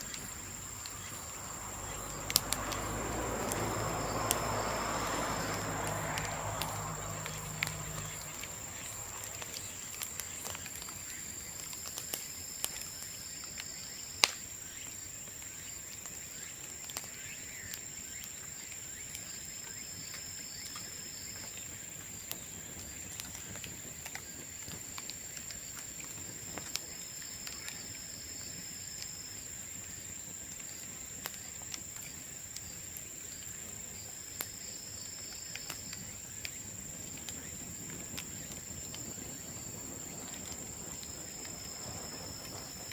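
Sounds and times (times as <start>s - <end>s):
bamboo bonfire crackling: 0.0s - 42.9s.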